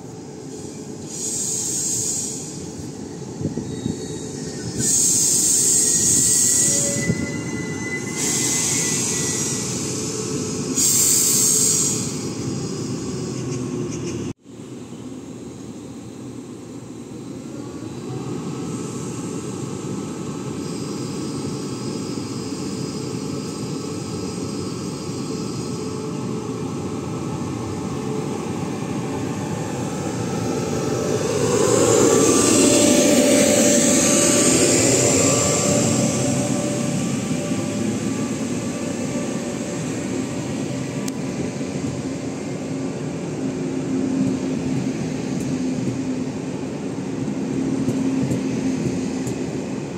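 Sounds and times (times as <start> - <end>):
train passing: 0.0 - 49.9.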